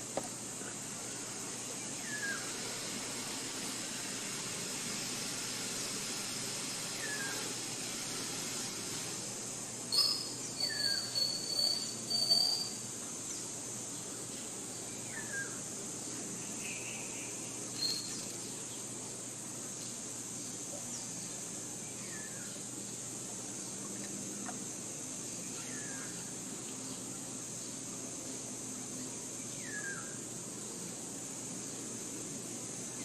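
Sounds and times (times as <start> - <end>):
steady high hiss: 0.0 - 33.0.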